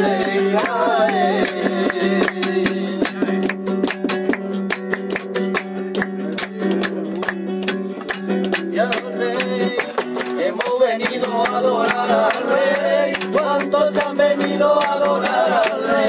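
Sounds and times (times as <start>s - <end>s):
person singing: 0.0s - 3.4s, 6.2s - 16.0s
hand claps: 0.0s - 16.0s
strummed flamenco guitar: 0.0s - 16.0s.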